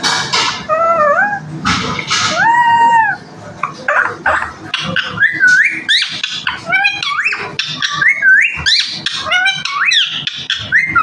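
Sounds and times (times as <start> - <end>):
parrot squawking and whistling: 0.6 - 1.5, 2.2 - 11.0.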